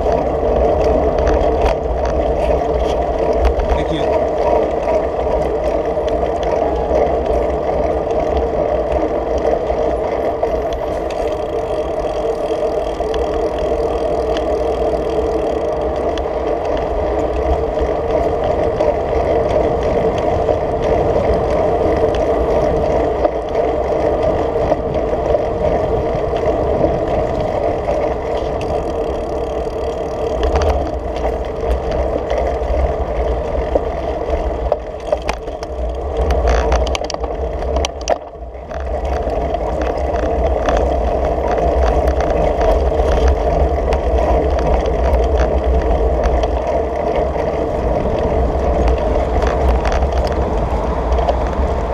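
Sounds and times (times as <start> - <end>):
road rumble: 0.0 - 51.9
wind noise: 0.0 - 51.9.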